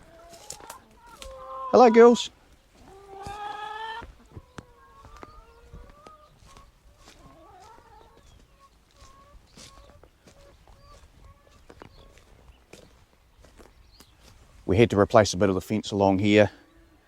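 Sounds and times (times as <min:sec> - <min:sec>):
hens clucking: 0:00.0 - 0:14.8, 0:15.7 - 0:17.0.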